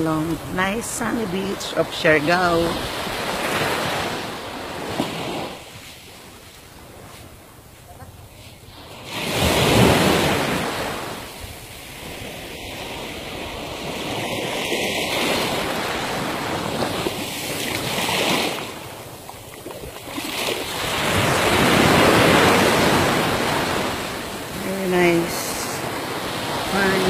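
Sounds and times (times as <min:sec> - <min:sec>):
sea surf washing onto beach: 0:00.0 - 0:27.0.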